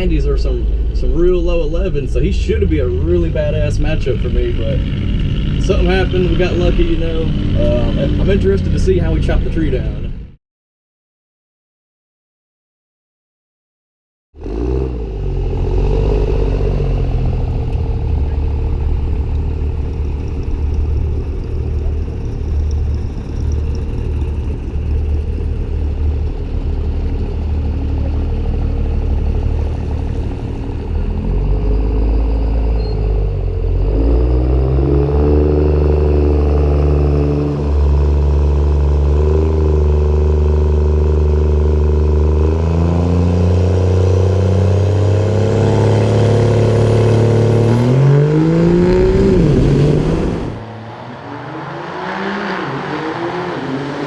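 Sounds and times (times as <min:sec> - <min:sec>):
drag car engine revving: 0:00.0 - 0:10.1, 0:14.4 - 0:54.0.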